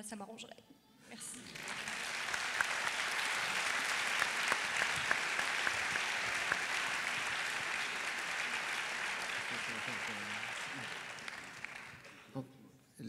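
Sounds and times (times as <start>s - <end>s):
audience applause: 1.2s - 12.3s.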